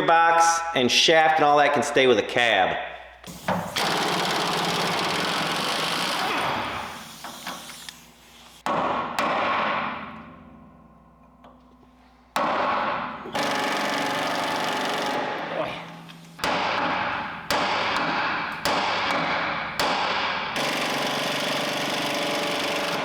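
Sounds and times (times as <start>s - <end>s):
impact wrench hammering: 3.2s - 23.0s.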